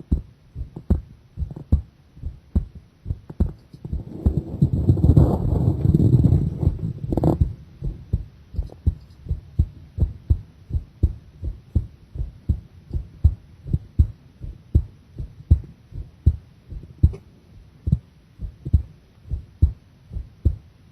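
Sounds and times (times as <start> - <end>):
heartbeat thumps: 0.0 - 20.8.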